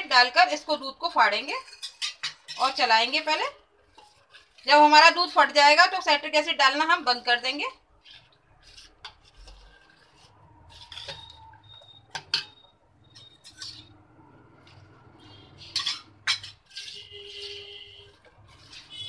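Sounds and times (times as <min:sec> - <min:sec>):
spoon scraping a metal pot: 0:00.0 - 0:19.0.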